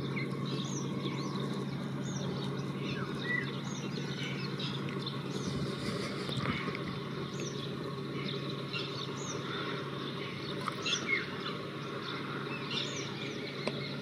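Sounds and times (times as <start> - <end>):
distant locomotive engine rumbling: 0.0 - 14.0
small birds chirping and trilling: 0.0 - 14.0.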